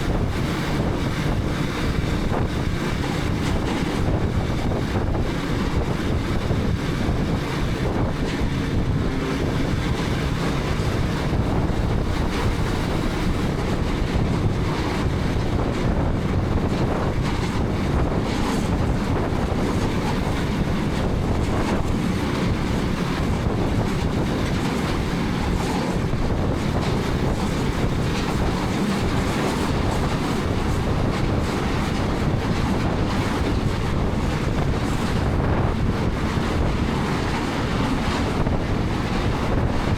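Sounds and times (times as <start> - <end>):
road noise: 0.0 - 39.9
wind buffeting microphone: 0.0 - 39.9.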